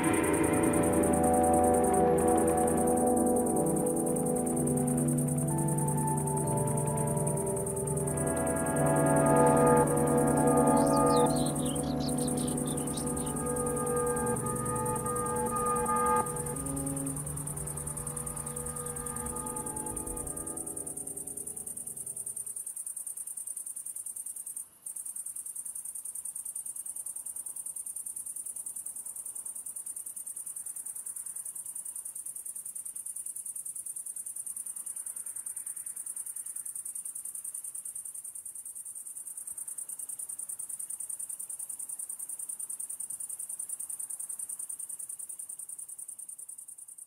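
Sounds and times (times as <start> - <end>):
insect chirring: 0.0 - 47.0.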